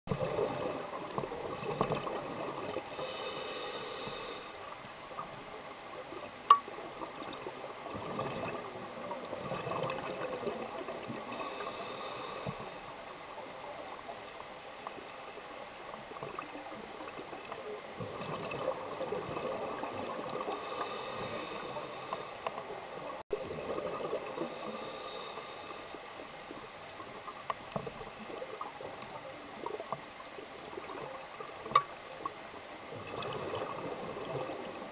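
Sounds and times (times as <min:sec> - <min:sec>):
muffled underwater hiss: 0:00.1 - 0:34.9
underwater bubbling bursts: 0:00.1 - 0:34.9.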